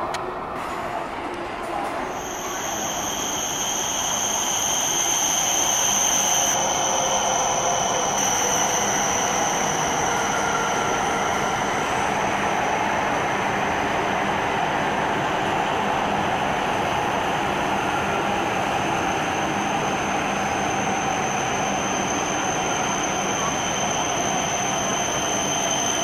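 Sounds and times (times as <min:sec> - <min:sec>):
high steady train whine: 0:00.0 - 0:26.0
high-speed train passing: 0:00.0 - 0:26.0.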